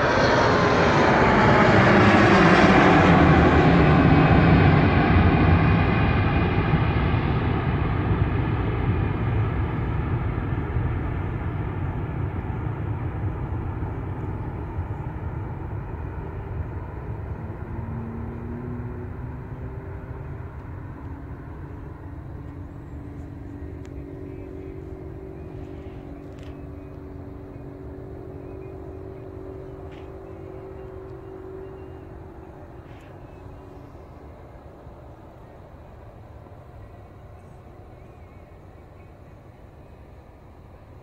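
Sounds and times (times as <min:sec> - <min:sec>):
airplane engines rumbling: 0:00.0 - 0:41.0
low engine hum: 0:00.0 - 0:41.0.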